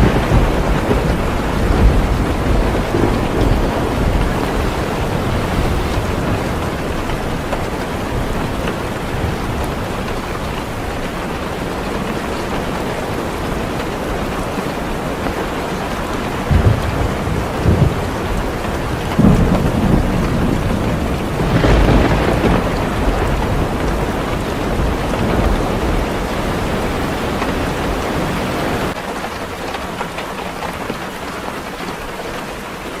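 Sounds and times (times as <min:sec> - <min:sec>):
thunder rumbling: 0:00.0 - 0:14.2, 0:16.4 - 0:29.0
heavy rain on a car: 0:00.0 - 0:33.0.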